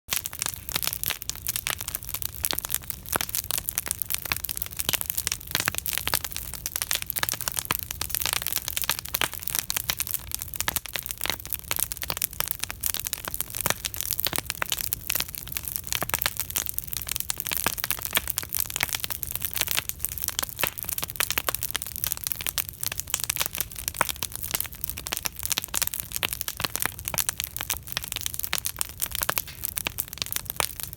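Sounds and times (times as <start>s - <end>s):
campfire crackling and popping: 0.1s - 30.9s.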